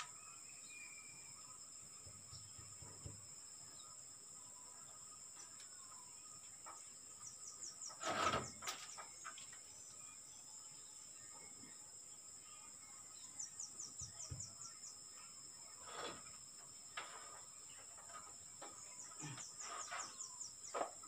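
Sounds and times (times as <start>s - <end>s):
bird chirps: 0.0s - 16.4s, 17.3s - 21.0s
insects droning: 0.0s - 21.0s.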